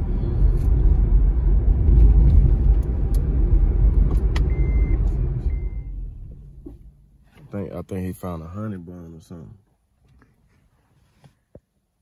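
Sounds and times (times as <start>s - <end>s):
vehicle engine and road rumble: 0.0s - 11.9s.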